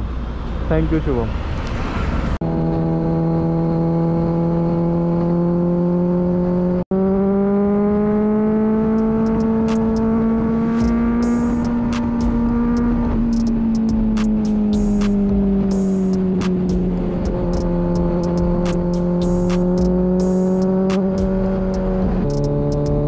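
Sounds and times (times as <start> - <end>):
motorcycle engine running: 2.4 - 23.0.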